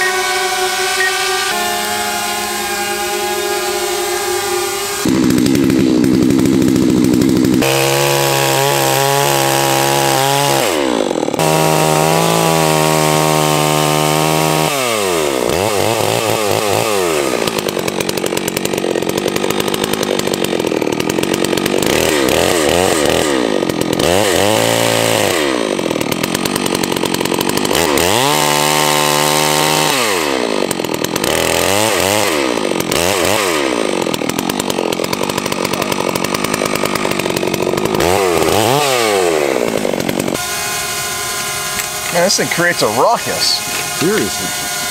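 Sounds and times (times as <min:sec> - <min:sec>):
chainsaw cutting into tree: 0:00.0 - 0:44.9.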